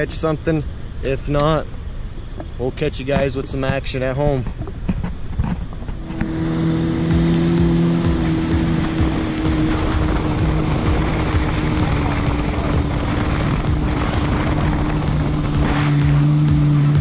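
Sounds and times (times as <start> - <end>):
jet ski engine humming: 0.0 - 17.0
wind and water rushing: 0.0 - 17.0.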